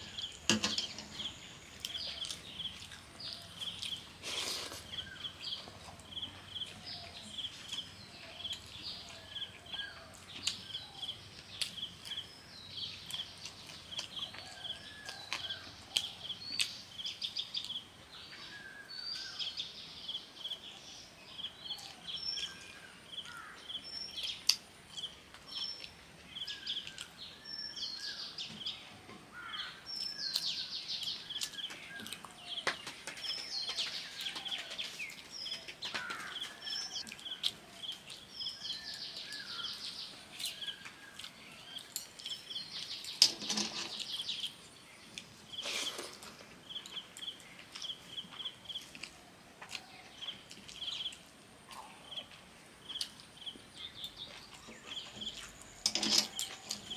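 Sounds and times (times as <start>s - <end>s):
birds calling and singing: 0.0s - 56.9s.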